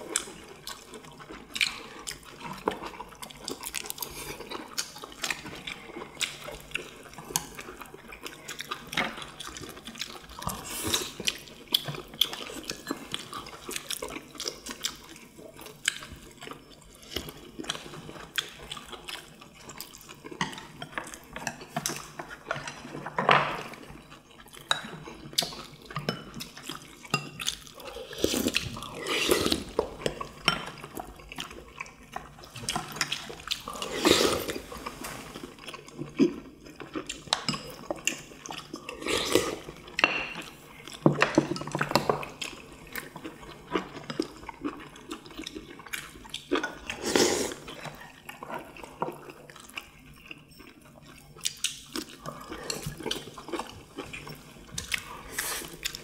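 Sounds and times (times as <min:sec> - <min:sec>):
wet chewing and slurping: 0:00.0 - 0:56.0.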